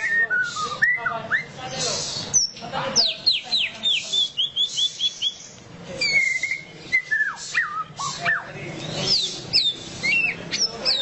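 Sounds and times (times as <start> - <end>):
bird singing whistles: 0.0 - 1.6, 2.2 - 11.0.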